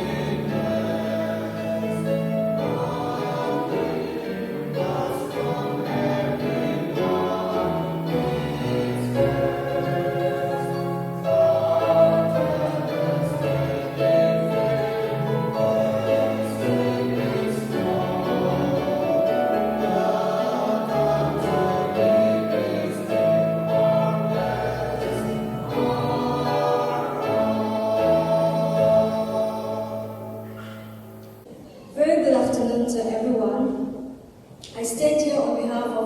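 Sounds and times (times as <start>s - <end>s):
choir singing slow song: 0.0s - 31.5s.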